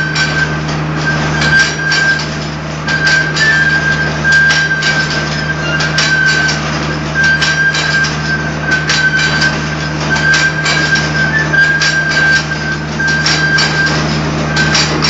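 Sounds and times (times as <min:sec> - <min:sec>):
metallic clicking and clattering: 0:00.0 - 0:15.0
motor hum: 0:00.0 - 0:15.0.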